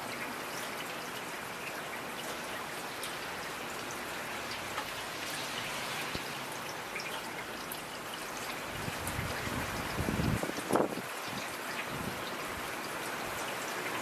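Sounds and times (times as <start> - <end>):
raindrops ticking on a surface: 0.0 - 14.0
steady rain hiss: 0.0 - 14.0.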